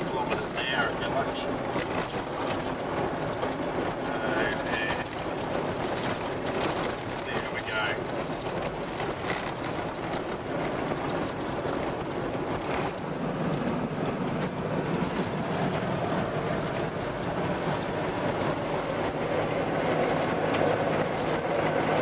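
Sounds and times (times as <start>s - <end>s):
knocks and rattles in vehicle: 0.0s - 22.0s
vehicle engine and tyre noise: 0.0s - 22.0s.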